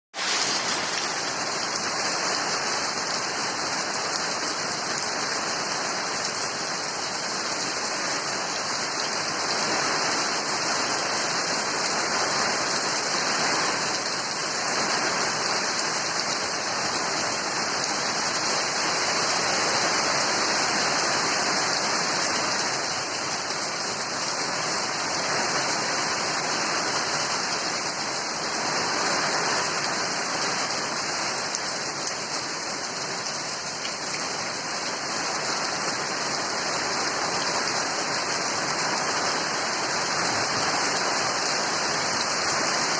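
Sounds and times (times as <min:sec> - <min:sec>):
steady rain falling: 0:00.1 - 0:42.9.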